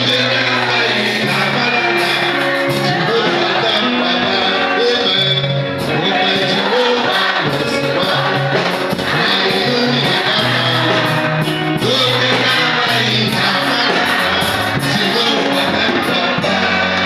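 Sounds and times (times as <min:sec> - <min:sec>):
band playing: 0:00.0 - 0:17.0
bass line: 0:00.0 - 0:17.0
voices singing gospel song: 0:00.0 - 0:17.0.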